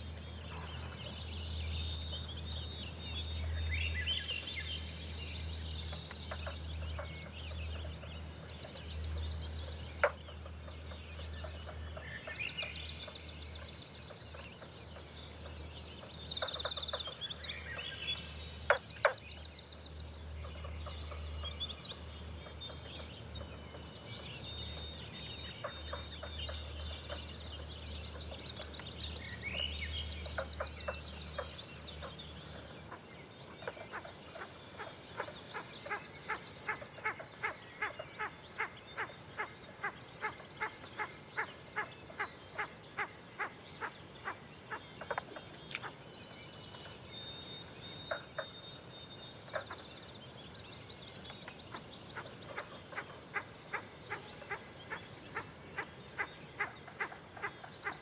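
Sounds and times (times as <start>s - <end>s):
birds singing trills: 0.0s - 58.0s.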